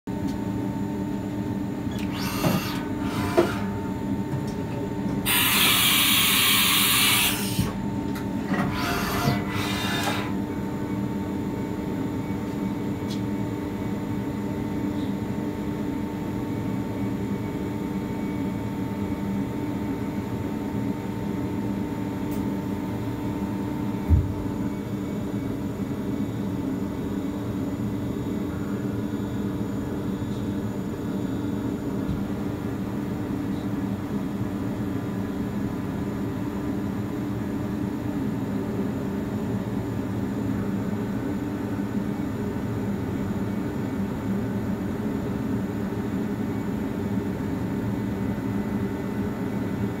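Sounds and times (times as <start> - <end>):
machine motors and fans humming: 0.1 - 50.0.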